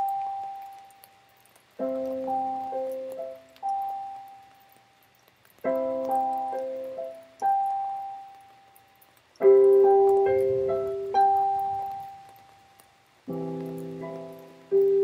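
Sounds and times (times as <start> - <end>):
piano keyboard chords: 0.0 - 15.0.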